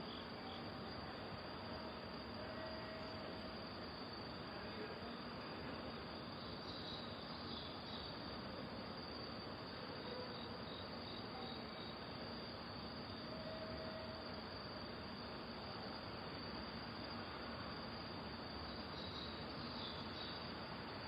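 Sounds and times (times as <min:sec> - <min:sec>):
crickets chirping: 0:00.0 - 0:21.0
steady background hiss: 0:00.0 - 0:21.0.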